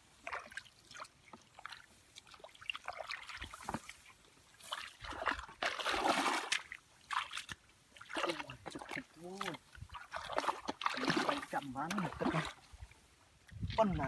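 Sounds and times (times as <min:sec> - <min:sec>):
hands splashing in muddy water: 0:00.2 - 0:14.0.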